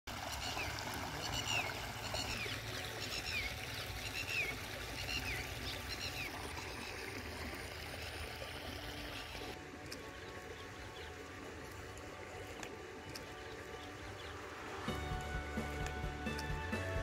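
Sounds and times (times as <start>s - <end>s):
water trickling over stones: 0.1s - 17.0s.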